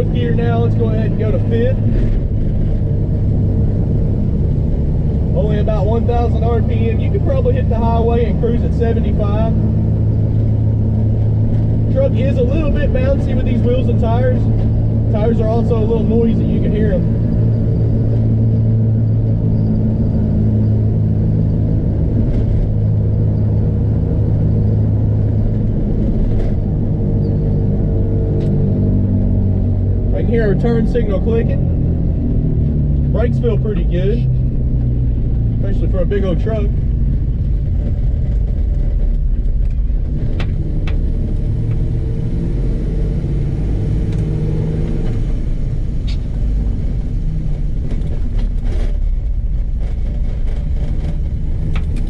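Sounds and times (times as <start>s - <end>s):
tires humming on pavement: 0.0s - 52.0s
truck engine droning: 0.0s - 52.0s.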